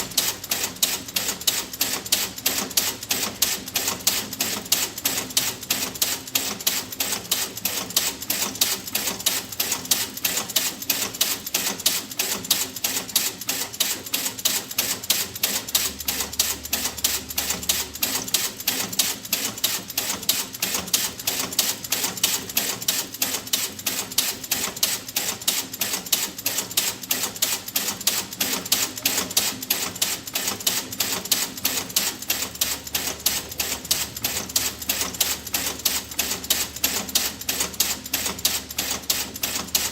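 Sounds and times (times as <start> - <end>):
rapid mechanical ticking: 0.0 - 39.9.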